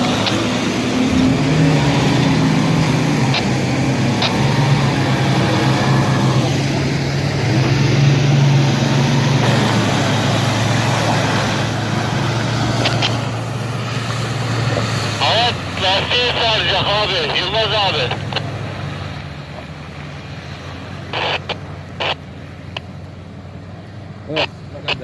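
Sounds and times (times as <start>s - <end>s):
pickup engine running under load: 0.0s - 25.0s.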